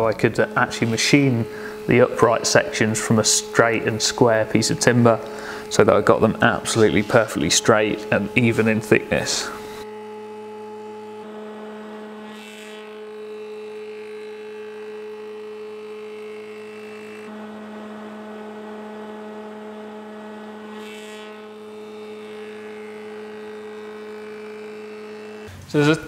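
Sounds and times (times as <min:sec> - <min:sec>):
spindle moulder humming: 0:00.0 - 0:26.0.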